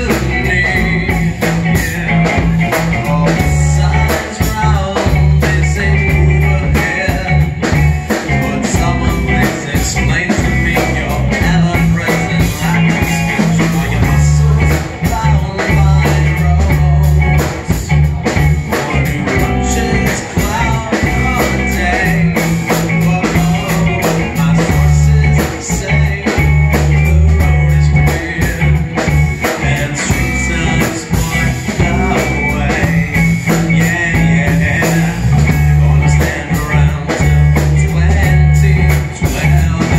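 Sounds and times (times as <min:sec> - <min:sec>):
live rock band playing: 0:00.0 - 0:39.9
man singing into a microphone: 0:00.0 - 0:39.9.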